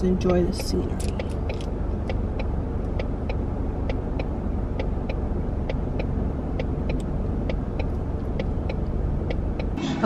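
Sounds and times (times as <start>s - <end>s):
turn signal clicking: 0.0s - 9.8s
road and engine rumble: 0.0s - 10.0s.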